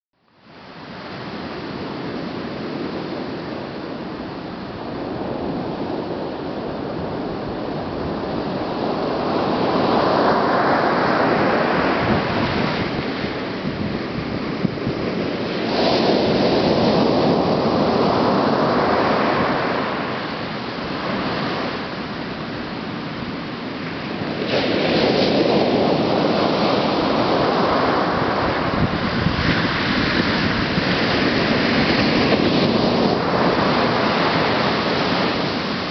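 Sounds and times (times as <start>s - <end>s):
surf breaking on beach: 4.8s - 35.9s.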